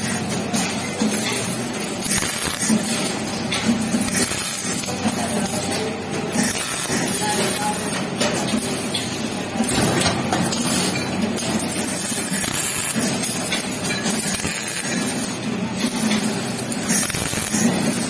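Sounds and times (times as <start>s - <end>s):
welding arc crackling: 0.0s - 8.0s, 8.6s - 18.0s
welding machine hum: 0.0s - 18.0s.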